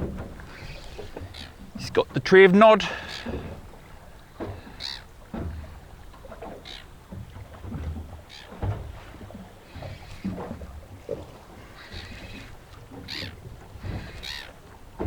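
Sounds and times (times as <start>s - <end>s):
water slapping boat hull: 0.0s - 15.0s.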